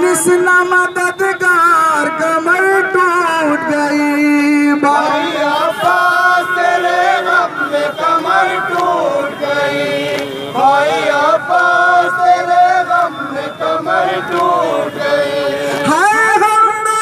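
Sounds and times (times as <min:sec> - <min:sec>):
men chanting a lament: 0:01.7 - 0:16.8.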